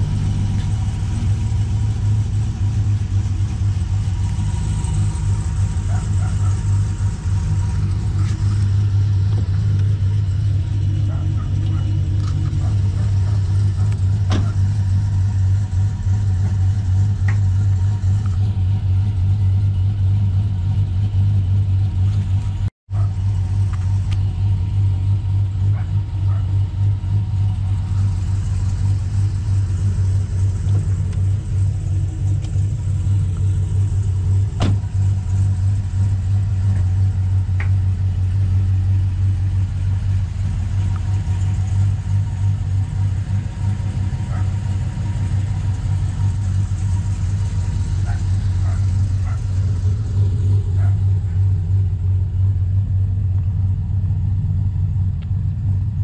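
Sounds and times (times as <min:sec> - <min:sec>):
pickup engine idling: 0:00.0 - 0:56.0.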